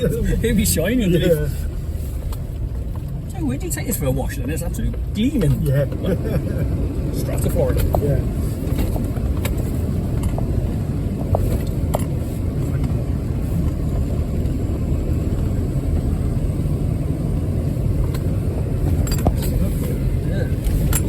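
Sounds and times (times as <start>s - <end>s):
off-road vehicle engine rumble: 0.0s - 21.0s.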